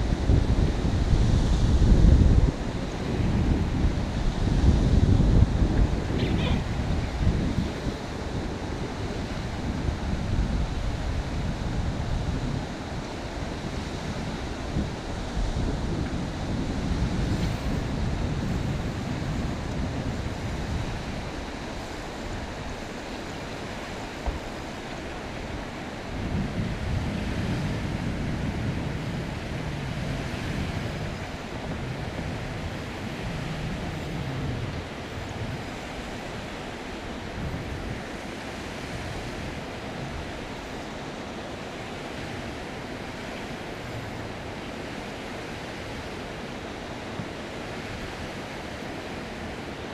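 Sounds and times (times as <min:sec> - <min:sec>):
river water rushing: 0:00.0 - 0:49.9
wind gusting on microphone: 0:00.0 - 0:49.9.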